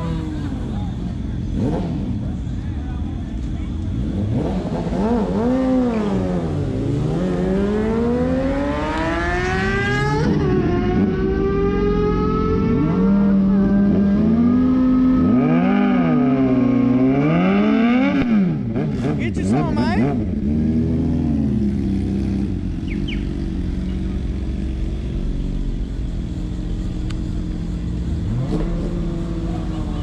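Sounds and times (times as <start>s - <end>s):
sport motorcycle engine revving: 0.0s - 2.5s, 3.8s - 30.0s.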